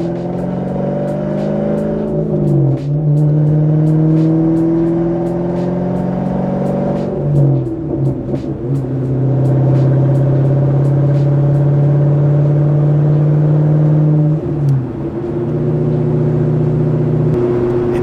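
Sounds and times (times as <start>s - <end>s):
car exhaust drone: 0.0s - 18.0s.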